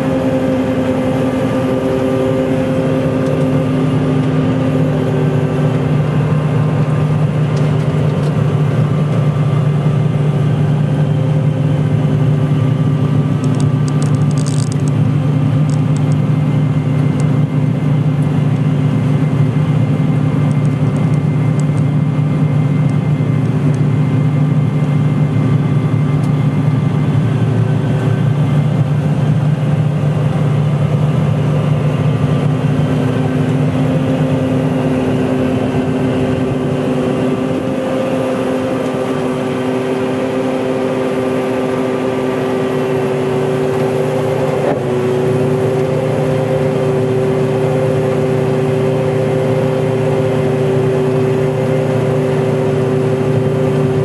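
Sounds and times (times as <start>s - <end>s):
combine harvester machinery drone: 0.0s - 54.0s.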